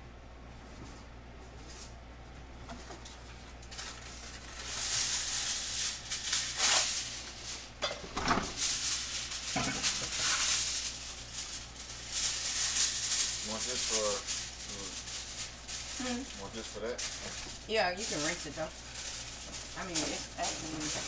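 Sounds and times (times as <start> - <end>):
aluminium foil crinkling: 2.7 - 21.0.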